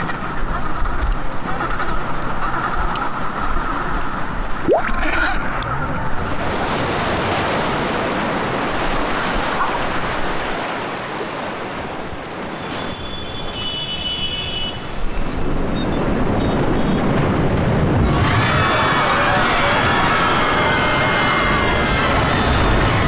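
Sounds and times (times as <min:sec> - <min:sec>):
rushing flood water and waves: 0:00.0 - 0:23.0.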